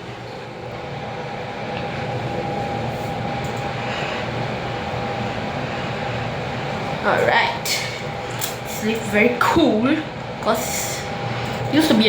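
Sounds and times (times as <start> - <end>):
lift running rumble: 0.0 - 12.0
thin steady whine: 0.0 - 12.0.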